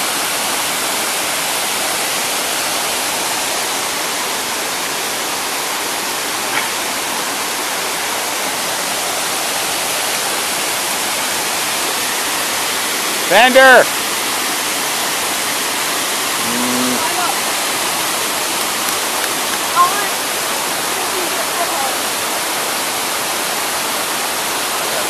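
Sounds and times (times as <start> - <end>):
creek rushing over rocks: 0.0 - 25.0.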